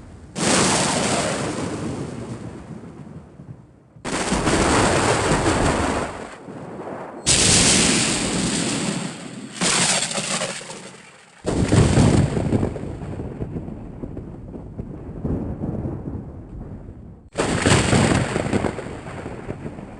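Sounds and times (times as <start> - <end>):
thunder cracks rolling: 0.0 - 19.9.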